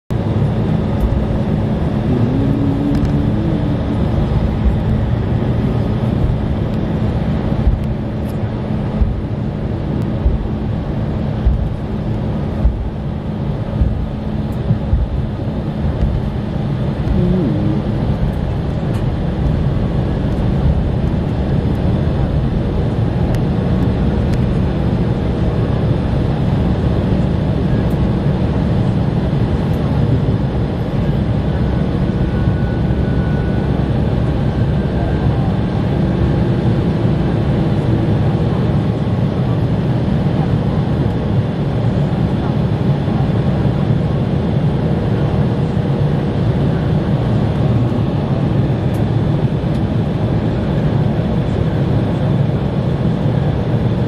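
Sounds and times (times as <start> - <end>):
jet engines rumbling and humming: 0.1 - 54.0.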